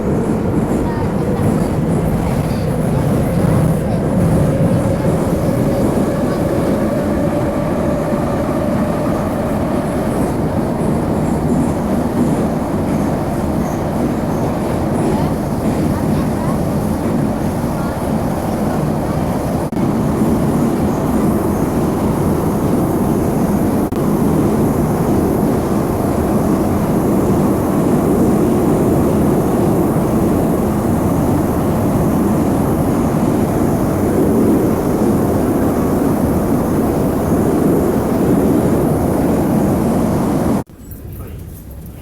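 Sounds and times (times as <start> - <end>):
metro train rumble: 0.0 - 42.0.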